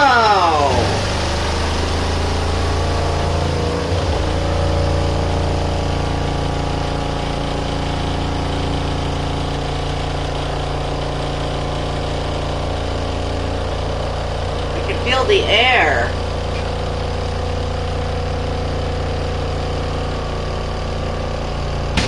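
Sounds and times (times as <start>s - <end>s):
spin dryer motor hum: 0.0s - 22.0s.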